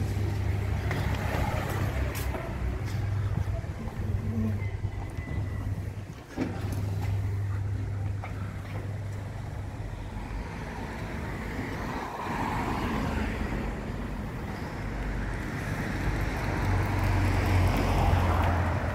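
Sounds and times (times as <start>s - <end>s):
low hum of vehicles: 0.0s - 18.9s
passing traffic: 0.0s - 18.9s.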